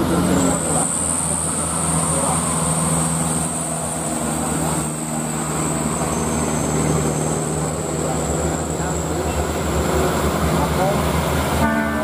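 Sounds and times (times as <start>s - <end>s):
diesel truck engine humming: 0.0s - 12.0s
road traffic: 0.0s - 12.0s.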